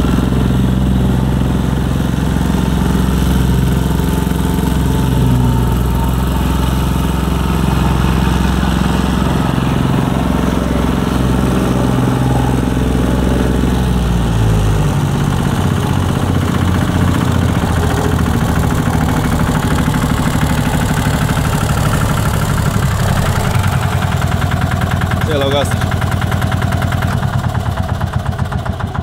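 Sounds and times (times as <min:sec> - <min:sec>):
plate compactor running on gravel: 0:00.0 - 0:29.0.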